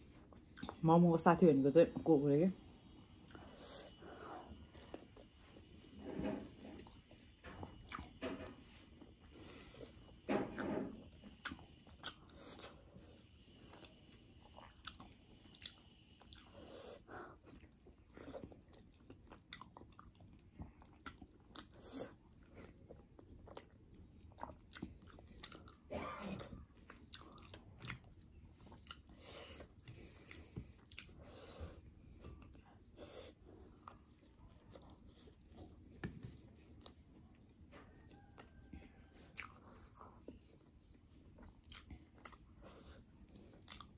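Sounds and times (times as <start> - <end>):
person chewing dumplings: 0.0 - 0.8, 2.8 - 43.9.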